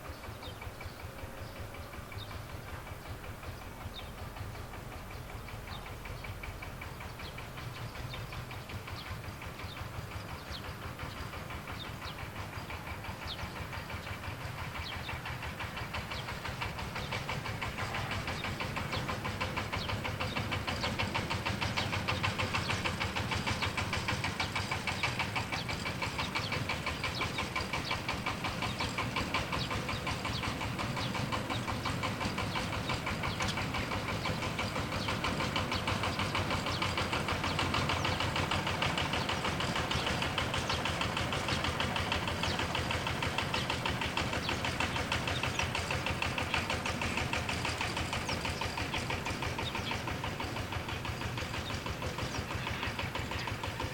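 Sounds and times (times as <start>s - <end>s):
engine knocking steadily: 0.0s - 53.9s.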